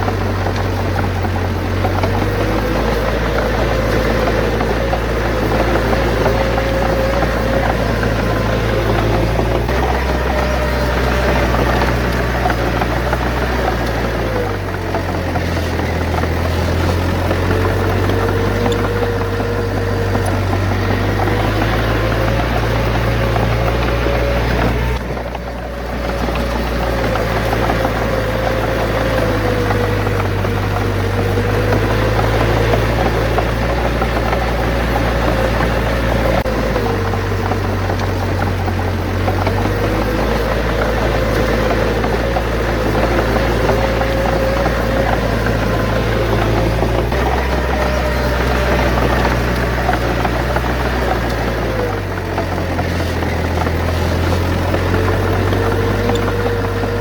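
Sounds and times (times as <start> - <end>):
heavy diesel engine working: 0.0 - 57.0.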